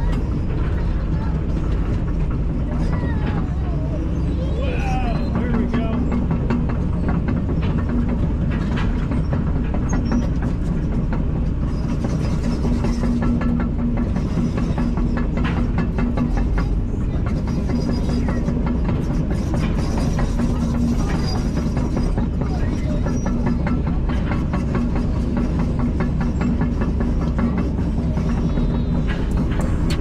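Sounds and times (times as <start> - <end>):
clanks and rattles: 0.0 - 30.0
excavator running: 0.0 - 30.0.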